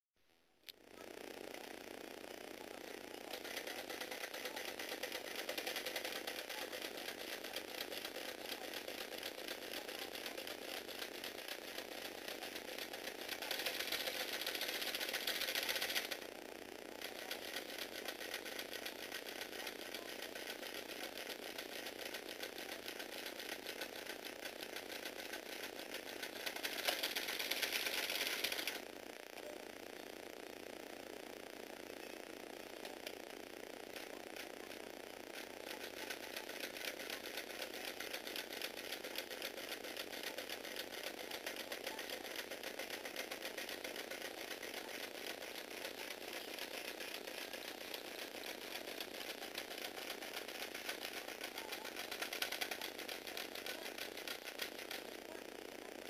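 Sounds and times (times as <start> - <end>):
small electric motor with rattling gears: 0.7 - 56.0.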